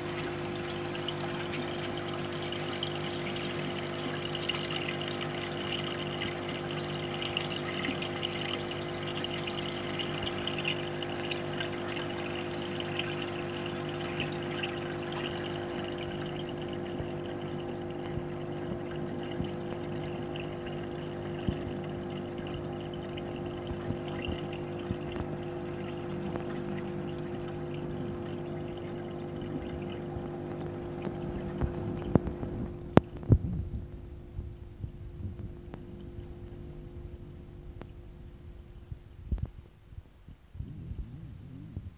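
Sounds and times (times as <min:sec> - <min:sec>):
air bubbles in water: 0:00.0 - 0:39.6
pump motor hum: 0:00.0 - 0:39.6.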